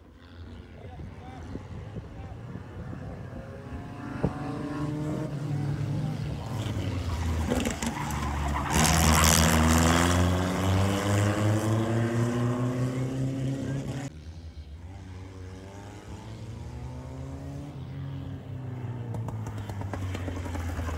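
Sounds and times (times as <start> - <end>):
race cars passing: 0.0 - 20.9.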